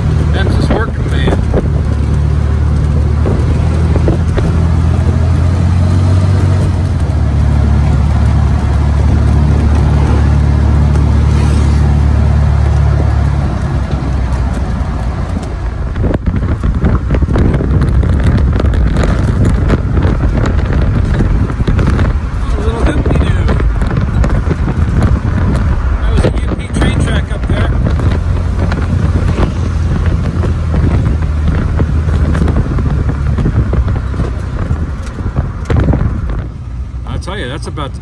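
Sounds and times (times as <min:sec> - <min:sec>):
rattling: 0:00.0 - 0:37.0
road noise: 0:00.0 - 0:38.0
vehicle engine droning: 0:00.0 - 0:38.0
wind noise: 0:00.0 - 0:38.0.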